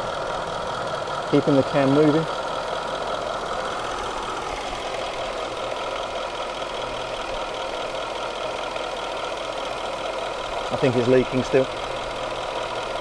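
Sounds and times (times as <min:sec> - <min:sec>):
air conditioning running: 0:00.0 - 0:13.0
car engine idling: 0:00.0 - 0:13.0.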